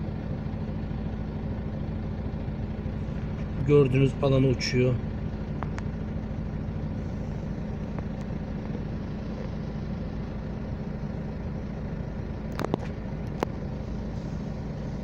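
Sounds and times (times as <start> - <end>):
vehicle engine humming inside cabin: 0.0 - 15.0.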